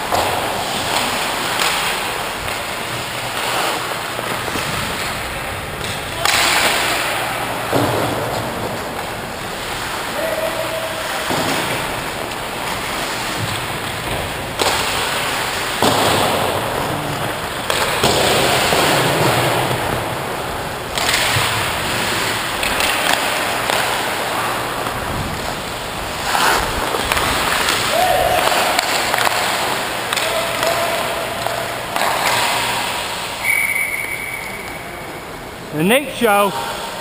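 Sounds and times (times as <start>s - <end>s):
skate blades scraping ice: 0.0s - 7.7s, 8.3s - 20.3s, 21.0s - 33.4s.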